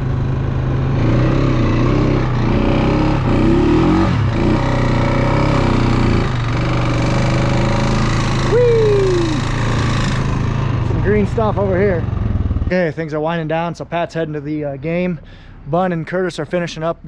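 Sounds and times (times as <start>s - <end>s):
quad bike engine revving: 0.0s - 13.7s.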